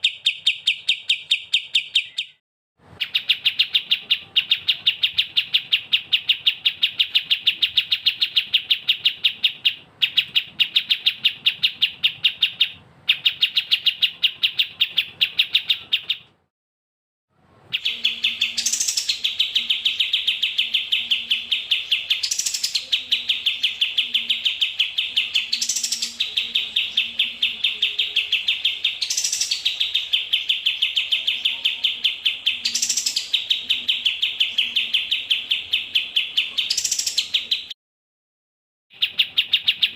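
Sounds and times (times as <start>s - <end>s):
songbird chirping: 0.0s - 16.5s, 17.5s - 37.8s, 38.9s - 39.9s.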